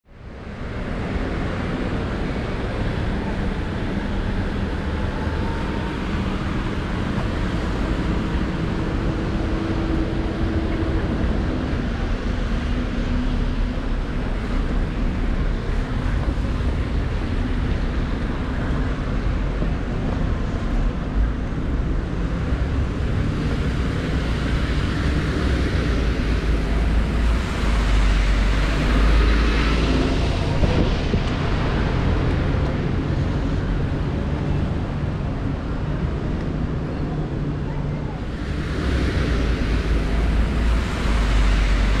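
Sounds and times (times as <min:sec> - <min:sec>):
traffic on wet roads: 0:00.1 - 0:42.0
heavy vehicle deep rumble: 0:00.3 - 0:42.0.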